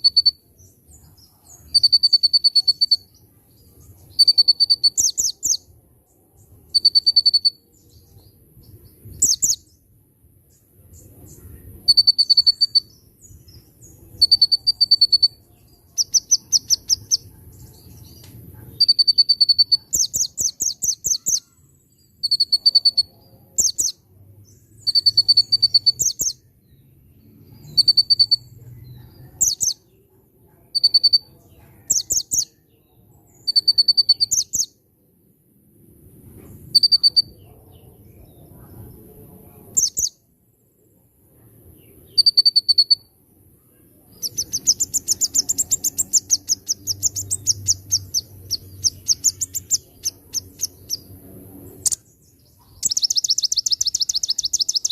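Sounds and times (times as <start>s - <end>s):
bird singing: 0.0s - 34.8s, 36.7s - 40.2s, 41.7s - 54.9s.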